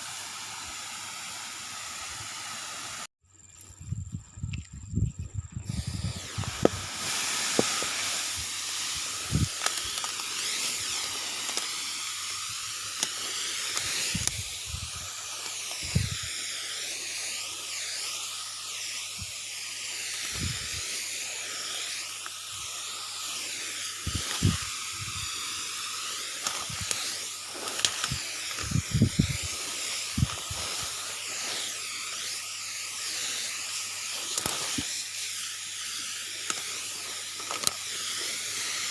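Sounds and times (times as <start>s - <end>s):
liquid spraying from nozzle: 0.0s - 3.1s, 5.6s - 38.9s.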